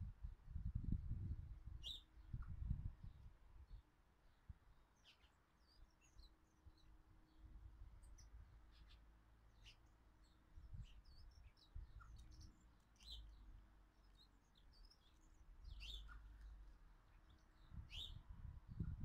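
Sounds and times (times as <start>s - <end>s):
small birds chirping: 1.8s - 19.0s.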